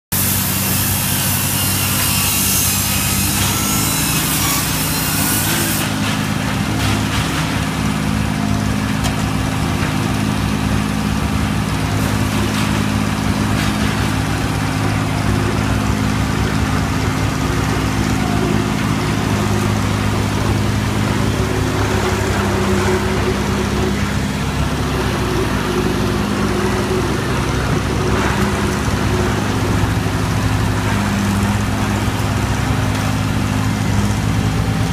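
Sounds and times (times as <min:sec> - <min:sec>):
drill rig engine running: 0:00.1 - 0:34.9
skid-steer loader engine: 0:00.1 - 0:34.9.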